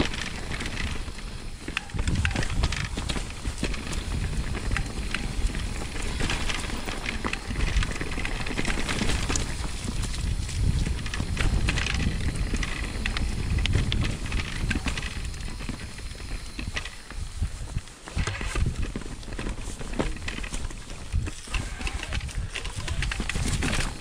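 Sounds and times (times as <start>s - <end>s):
bike rattling: 0.0s - 24.0s
tyres crunching on gravel: 0.0s - 24.0s
wind rumbling on microphone: 0.0s - 24.0s.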